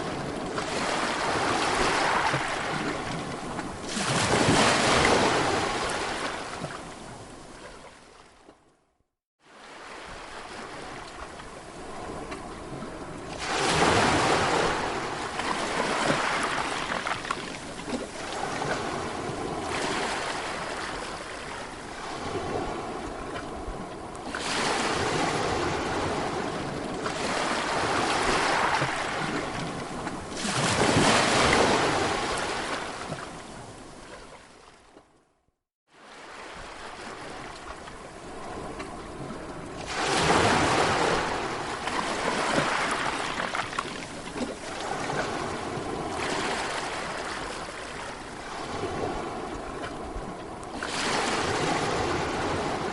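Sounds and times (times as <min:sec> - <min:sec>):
sea waves breaking on shore: 0:00.0 - 0:08.6, 0:09.4 - 0:35.2, 0:35.9 - 0:52.9.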